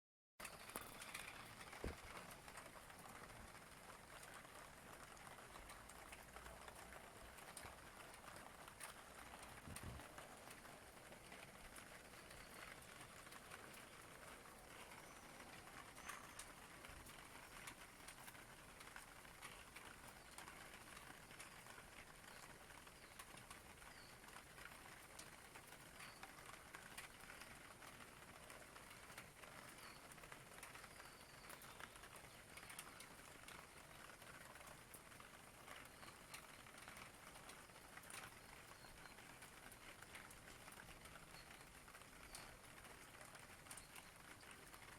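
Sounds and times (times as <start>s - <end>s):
faint steady rain: 0.4s - 44.9s.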